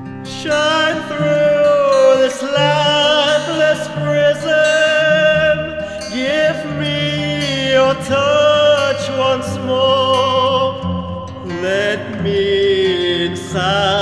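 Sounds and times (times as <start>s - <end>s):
person singing long notes: 0.3s - 14.0s.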